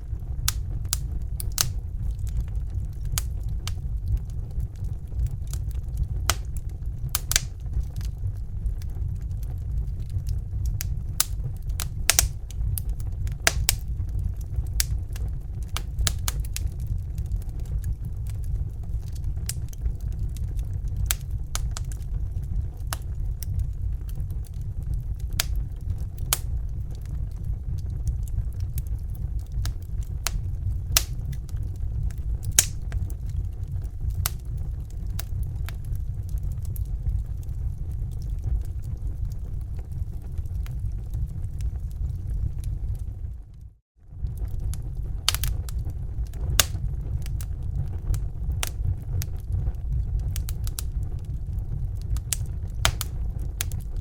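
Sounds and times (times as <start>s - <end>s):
fire crackling and popping: 0.0s - 54.0s
low rumble: 0.0s - 54.0s.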